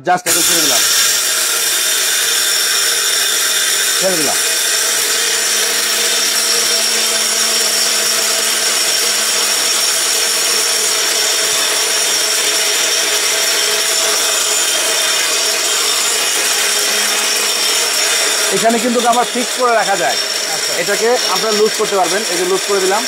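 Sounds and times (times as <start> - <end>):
electric grinder whirring: 0.3 - 23.0.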